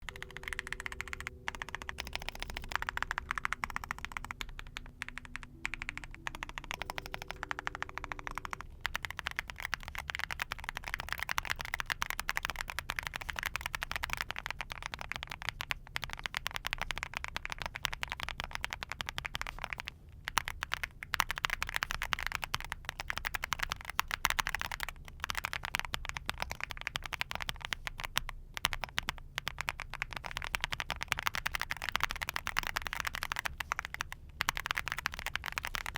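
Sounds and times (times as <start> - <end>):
mechanical keyboard typing: 0.0 - 35.9.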